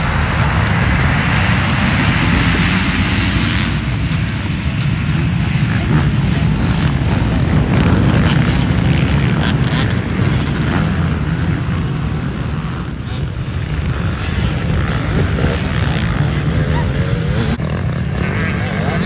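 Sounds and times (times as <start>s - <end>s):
motocross bike engines racing: 0.0s - 19.0s.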